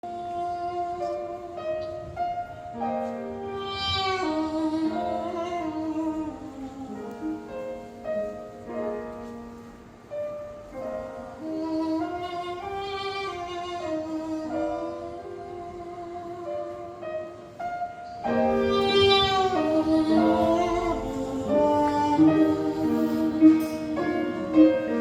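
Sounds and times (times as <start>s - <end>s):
ensemble playing slow melody: 0.0s - 25.0s.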